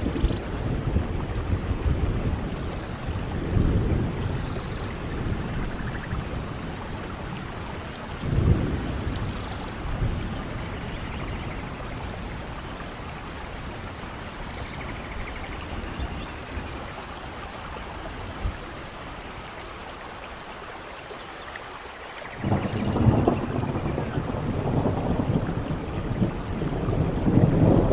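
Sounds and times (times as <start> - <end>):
thunder rumbles: 0.0 - 16.8, 22.3 - 27.9
steady rain: 0.0 - 27.9.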